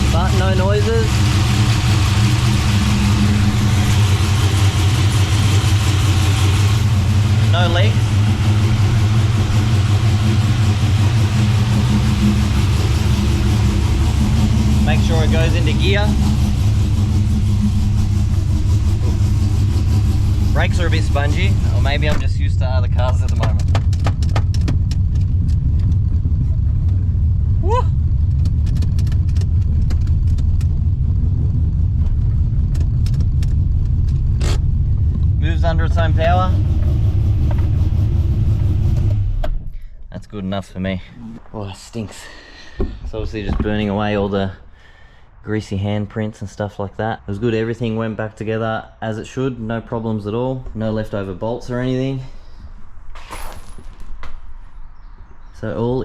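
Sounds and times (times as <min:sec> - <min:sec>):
car engine idling: 0:00.0 - 0:45.8.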